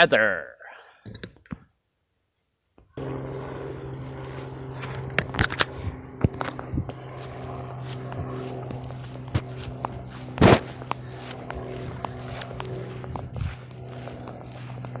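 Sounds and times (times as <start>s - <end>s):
steady low hum: 3.0s - 15.0s.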